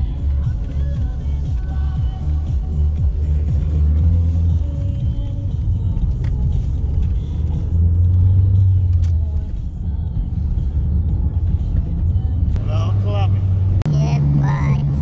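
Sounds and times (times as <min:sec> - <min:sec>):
car engine drone: 0:00.0 - 0:15.0
road noise: 0:00.0 - 0:15.0.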